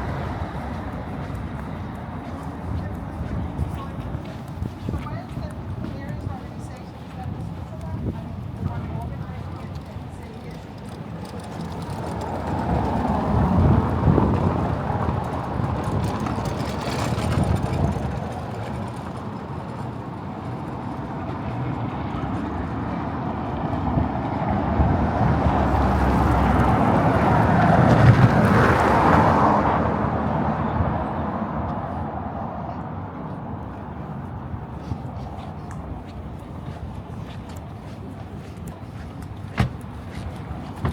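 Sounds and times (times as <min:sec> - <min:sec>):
motor vehicles passing by: 0:00.0 - 0:40.9.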